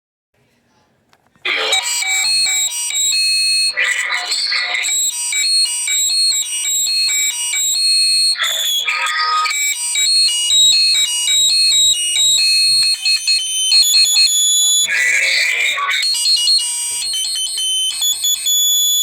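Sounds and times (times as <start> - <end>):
high-pitched feedback squealing: 1.5 - 18.9.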